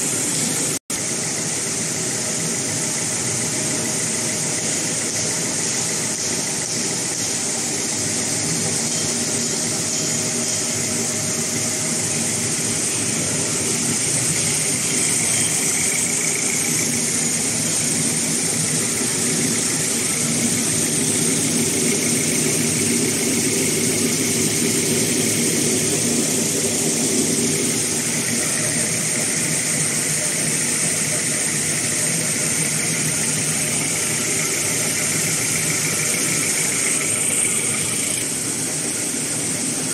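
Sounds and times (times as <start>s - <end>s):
converting machine hum and whir: 0.0s - 39.9s
steady high hiss: 2.8s - 39.9s.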